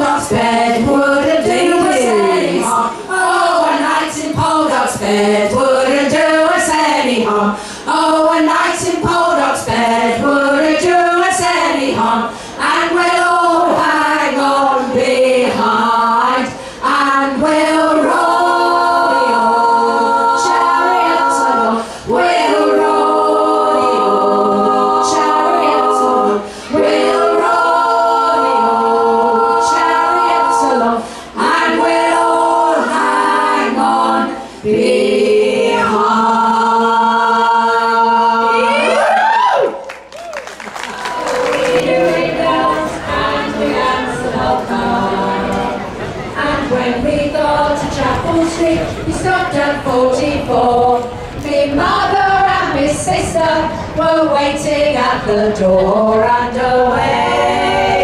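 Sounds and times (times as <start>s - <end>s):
group singing in harmony: 0.0s - 39.8s, 40.6s - 58.0s.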